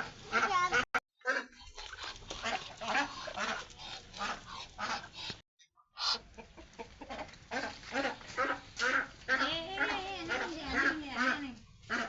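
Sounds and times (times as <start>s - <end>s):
ducks quacking: 0.0s - 5.3s, 6.0s - 12.0s
chickens clucking: 0.0s - 5.4s, 6.0s - 12.0s.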